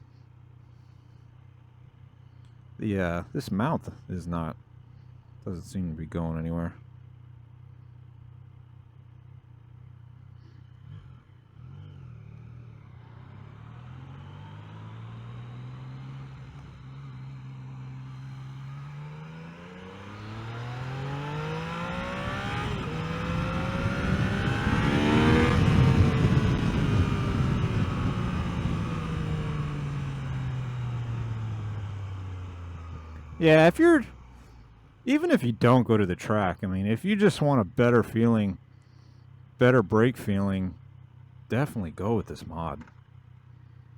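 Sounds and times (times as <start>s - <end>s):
motorcycle engine accelerating: 6.9s - 43.9s.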